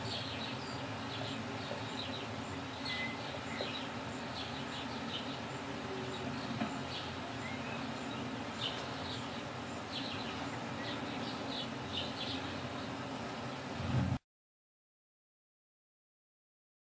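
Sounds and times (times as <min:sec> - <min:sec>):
small birds chirping: 0:00.0 - 0:13.8
steady low hum: 0:00.0 - 0:14.2.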